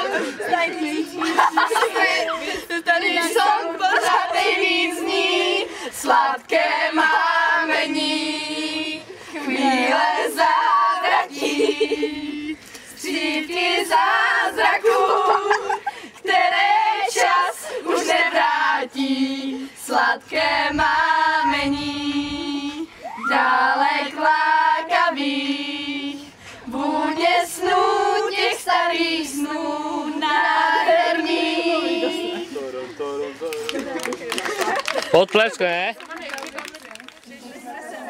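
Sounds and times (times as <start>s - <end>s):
girls singing together: 0.0s - 32.7s.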